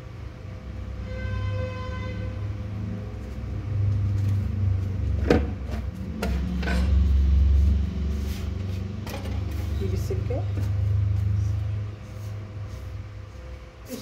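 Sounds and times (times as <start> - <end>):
steady low rumble: 2.4 - 13.8.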